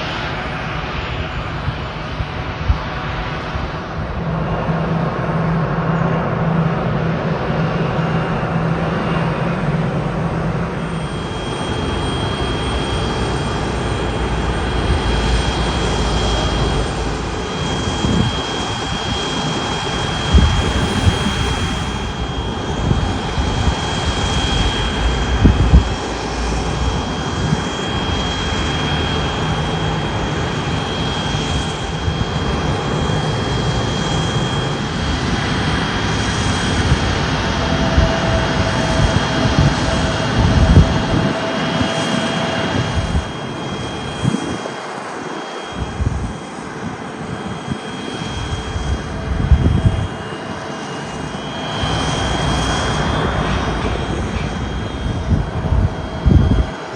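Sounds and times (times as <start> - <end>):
high-pitched engine whine: 0.0 - 56.9
jet engines rumbling: 0.0 - 56.9.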